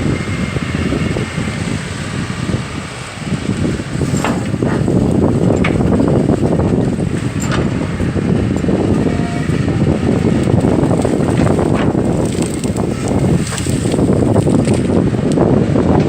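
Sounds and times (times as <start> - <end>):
excavator diesel engine running: 0.0 - 16.0
wind buffeting microphone: 0.0 - 16.0.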